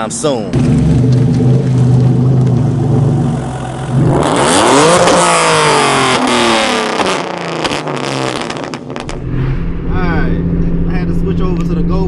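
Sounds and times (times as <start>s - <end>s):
exhaust crackles: 0.1s - 12.0s
car engine revving: 0.5s - 12.0s.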